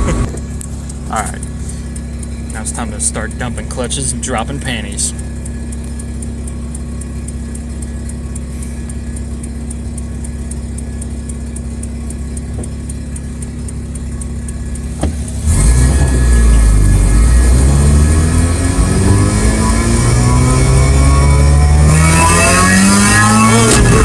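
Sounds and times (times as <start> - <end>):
rotary engine idling and revving: 0.0 - 24.0.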